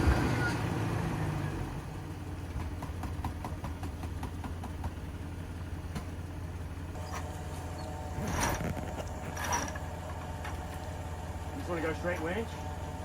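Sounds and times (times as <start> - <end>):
off-road vehicle engine idling: 0.0 - 13.0.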